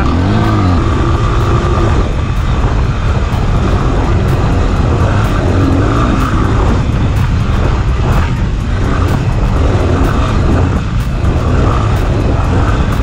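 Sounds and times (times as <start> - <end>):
dirt bike engine running: 0.0 - 13.0
wind on microphone: 0.0 - 13.0.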